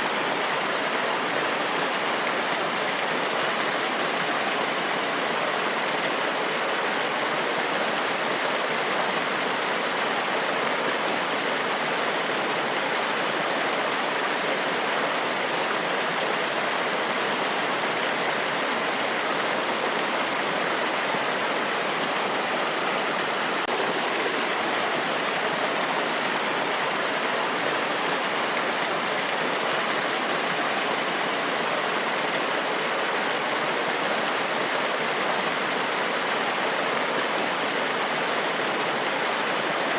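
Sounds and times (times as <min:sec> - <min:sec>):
water cascading over rocks: 0:00.0 - 0:39.9.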